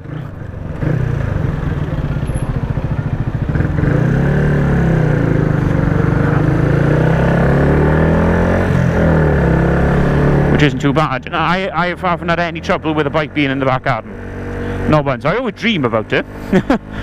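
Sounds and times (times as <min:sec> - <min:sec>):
motorcycle engine: 0:00.0 - 0:17.0.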